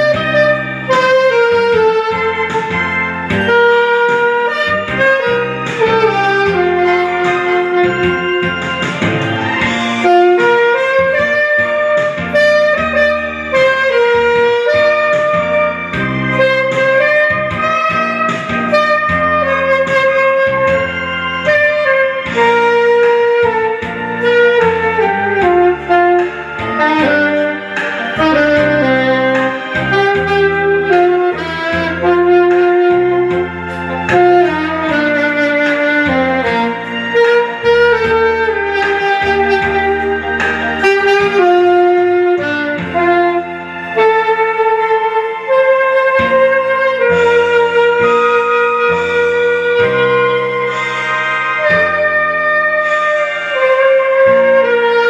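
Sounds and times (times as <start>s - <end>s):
band accompaniment with bass: 0.0s - 55.0s
saxophone ballad melody: 0.0s - 55.0s.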